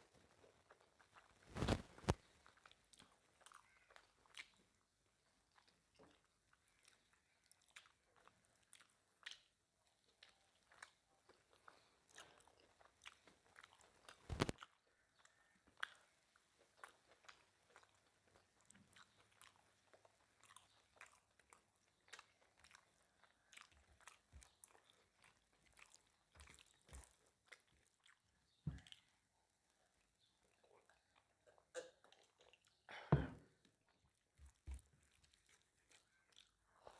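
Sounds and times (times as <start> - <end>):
wet chewing and mouth smacks: 0.2 - 32.9, 33.6 - 36.9.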